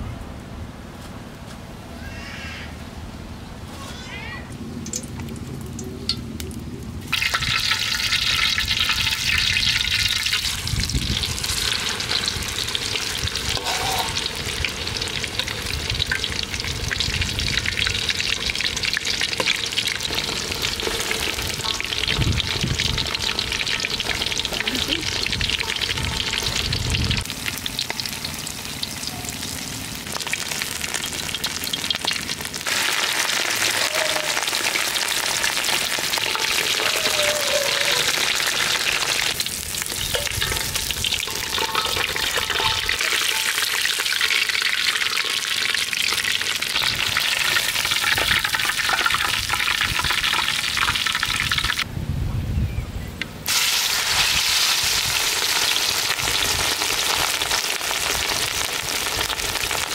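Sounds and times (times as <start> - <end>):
hot oil sizzling and crackling: 4.7 - 51.9, 53.2 - 59.9.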